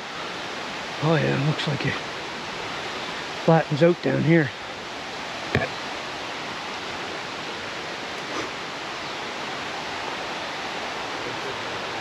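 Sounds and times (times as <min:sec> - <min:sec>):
rushing waterfall stream: 0:00.0 - 0:12.0.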